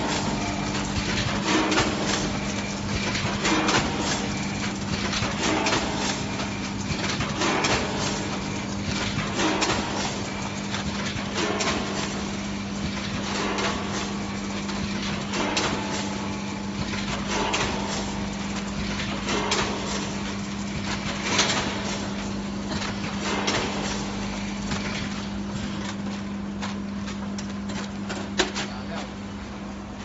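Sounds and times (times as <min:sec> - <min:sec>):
sharp machine knock: 0:00.0 - 0:24.9
packing machine humming and clattering: 0:00.0 - 0:30.0.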